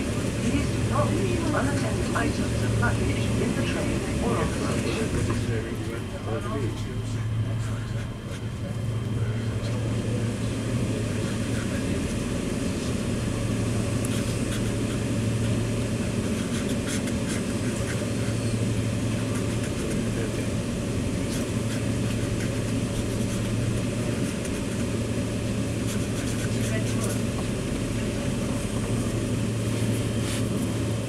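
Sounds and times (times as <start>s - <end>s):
train carriage running noise: 0.0s - 31.0s.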